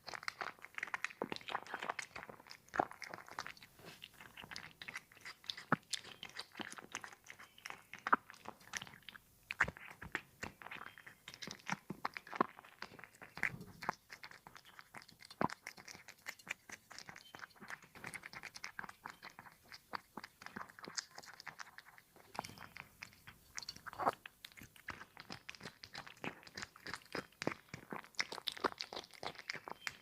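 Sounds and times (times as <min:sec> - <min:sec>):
cat crunching and chewing food: 0:00.0 - 0:30.0.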